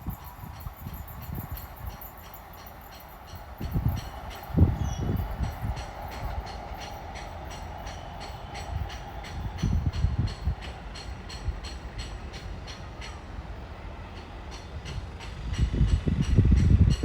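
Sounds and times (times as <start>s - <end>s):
low train rumble: 0.0s - 17.0s
train wheels clacking over rail joints: 0.0s - 17.0s.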